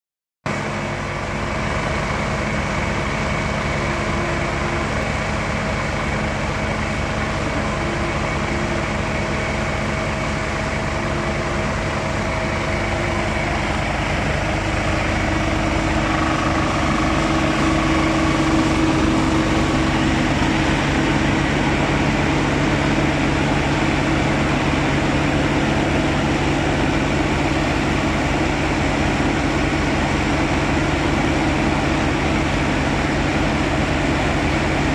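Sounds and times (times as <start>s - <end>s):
diesel engine running: 0.5s - 34.9s.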